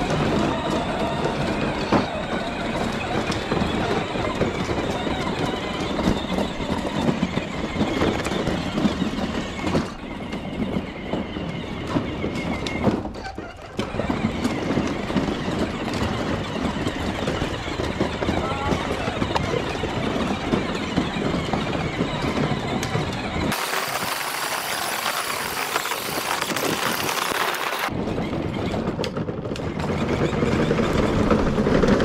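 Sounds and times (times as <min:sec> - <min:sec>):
plastic toy vehicle rattling: 0:00.0 - 0:32.0.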